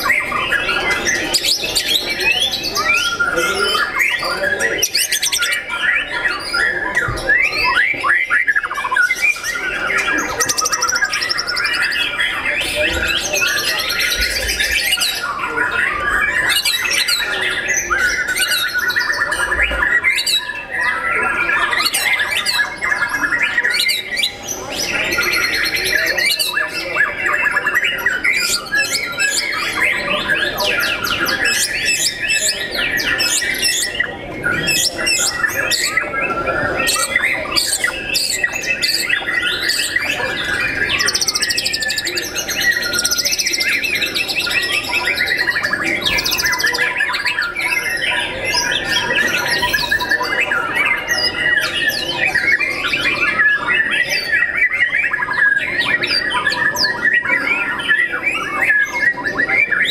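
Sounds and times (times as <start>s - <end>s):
birds singing: 0.0s - 59.9s.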